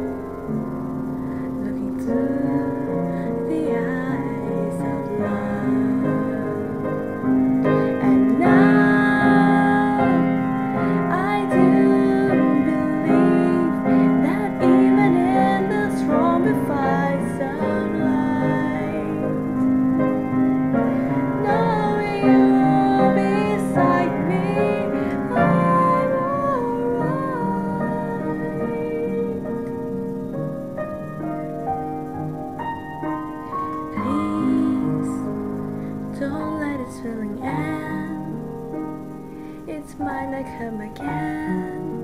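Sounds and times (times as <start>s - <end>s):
piano ballad accompaniment: 0.0s - 42.0s
woman singing: 1.4s - 19.8s, 20.9s - 30.0s, 33.8s - 38.7s, 39.7s - 42.0s.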